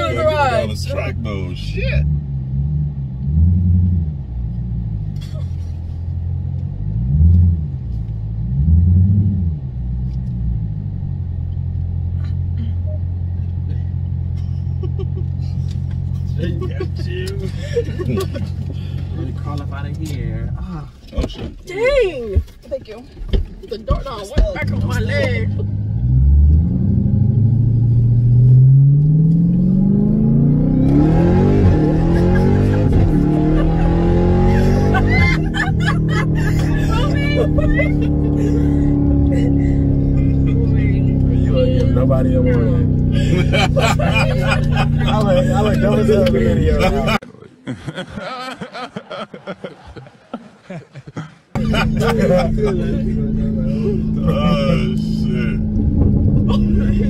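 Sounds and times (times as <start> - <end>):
car engine droning under throttle: 0.0 - 20.6, 24.6 - 47.2, 51.6 - 57.0.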